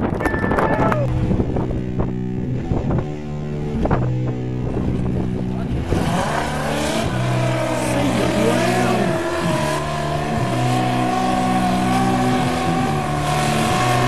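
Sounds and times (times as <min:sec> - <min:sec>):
tractor engine revving hard: 0:01.2 - 0:14.0.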